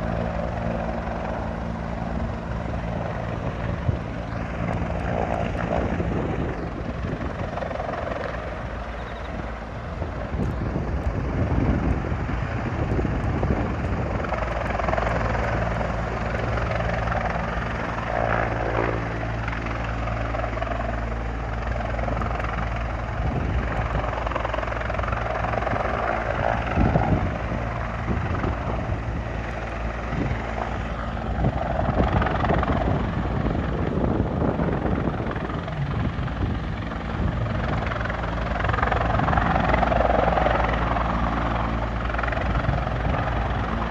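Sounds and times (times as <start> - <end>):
helicopter rotor and engine: 0.0 - 43.9.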